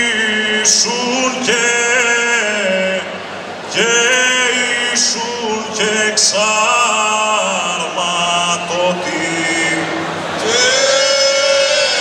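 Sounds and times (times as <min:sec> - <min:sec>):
men singing a cappella: 0:00.0 - 0:03.0, 0:03.7 - 0:12.0.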